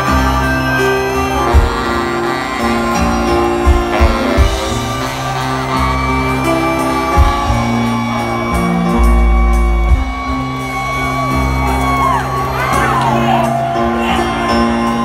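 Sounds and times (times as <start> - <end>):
live ska band playing: 0.0 - 15.0.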